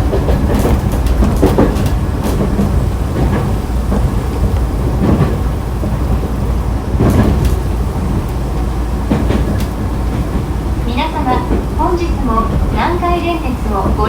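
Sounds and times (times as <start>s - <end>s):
train low rumble: 0.0s - 14.0s
wheels clicking over rail joints: 0.0s - 14.0s.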